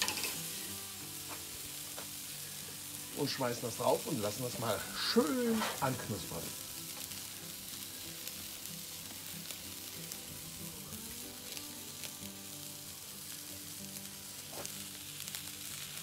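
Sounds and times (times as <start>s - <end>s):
meat sizzling on a grill: 0.0s - 16.0s.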